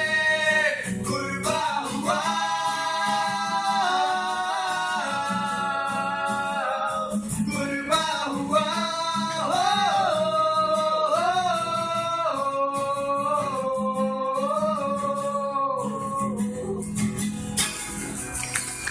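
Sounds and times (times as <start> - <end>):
person singing long wordless notes: 0.0 - 16.8
guitar accompaniment: 0.0 - 18.9.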